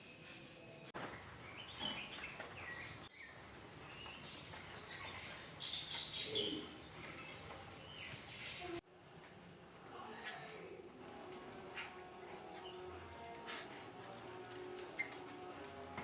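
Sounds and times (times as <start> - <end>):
birds chirping and calling: 1.5 - 8.8, 9.9 - 16.0.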